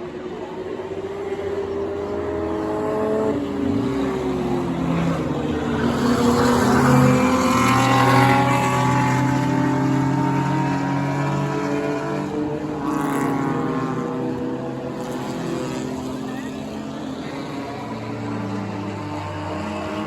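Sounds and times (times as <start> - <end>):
race car engines: 0.0 - 20.0.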